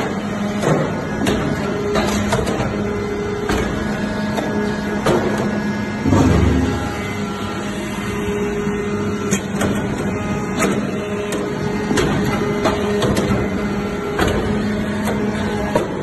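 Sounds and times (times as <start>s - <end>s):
motor and pump humming: 0.0s - 16.0s.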